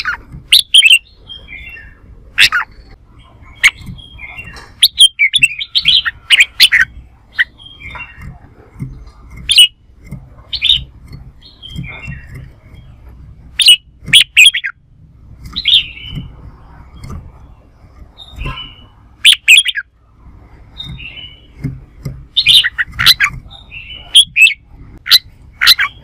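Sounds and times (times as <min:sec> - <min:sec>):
bulbul singing: 0:00.0 - 0:26.0.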